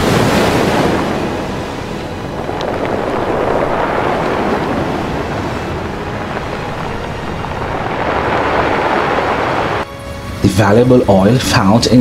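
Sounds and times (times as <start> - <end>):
ocean waves rushing: 0.0 - 10.7
wind: 0.0 - 12.0.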